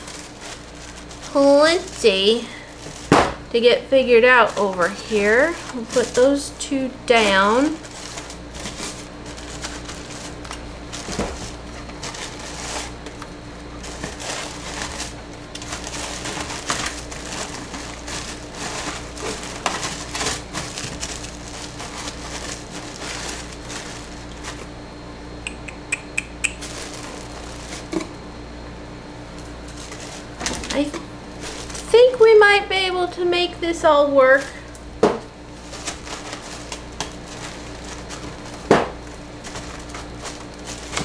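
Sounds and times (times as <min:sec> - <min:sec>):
paper crinkling: 0:00.0 - 0:03.5, 0:04.2 - 0:24.7, 0:26.6 - 0:28.0, 0:29.3 - 0:32.2, 0:35.5 - 0:41.0
steady low hum: 0:00.0 - 0:41.0.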